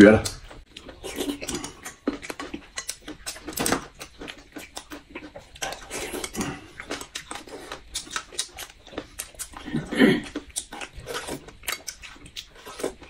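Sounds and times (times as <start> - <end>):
slurping and chewing: 0.2 - 13.0.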